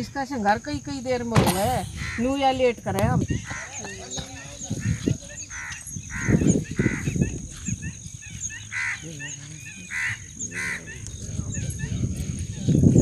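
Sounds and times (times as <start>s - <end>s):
bird calling: 1.8s - 12.9s.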